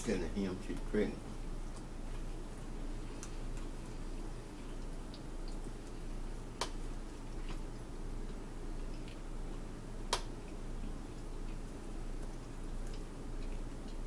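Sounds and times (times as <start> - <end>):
steady low hum: 0.0 - 14.0
chewing and mouth ticks: 0.8 - 14.0.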